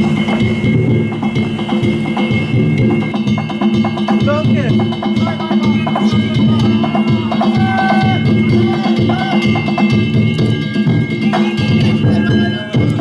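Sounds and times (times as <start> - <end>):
voices calling: 0.0 - 11.9
taiko drum beating: 0.0 - 13.0.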